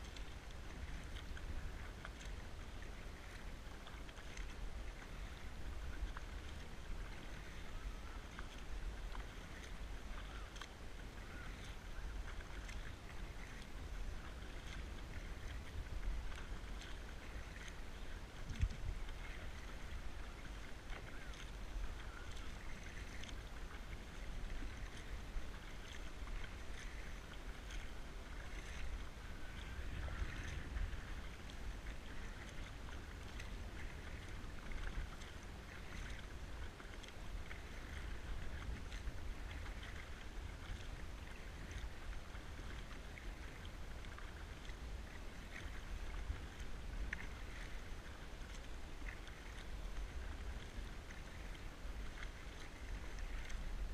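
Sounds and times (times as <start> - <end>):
paddle splashing in water: 0.0 - 53.9
water running off paddle: 0.0 - 53.9
wind rumble on microphone: 0.0 - 53.9.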